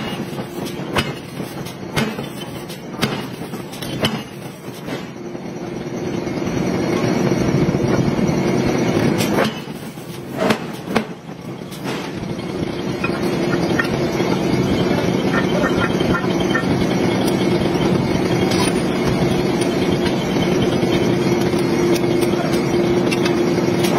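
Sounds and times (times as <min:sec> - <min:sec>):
metal clangs and knocks: 0:00.0 - 0:05.2, 0:09.0 - 0:23.9
forging machinery droning: 0:00.0 - 0:23.9.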